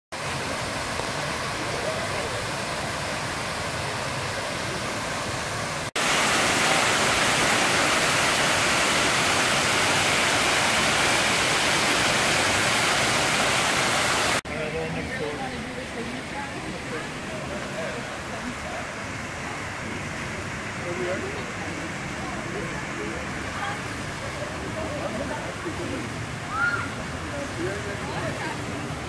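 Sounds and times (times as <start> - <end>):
fountain water splashing into pool: 0.2 - 14.4, 15.4 - 29.0.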